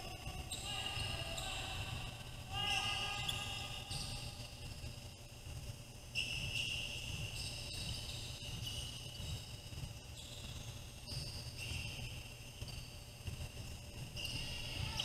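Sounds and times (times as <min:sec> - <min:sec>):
sneakers squeaking on gym floor: 0:00.0 - 0:01.9, 0:02.7 - 0:05.3, 0:06.1 - 0:15.0
low rumble of gym: 0:00.0 - 0:15.0.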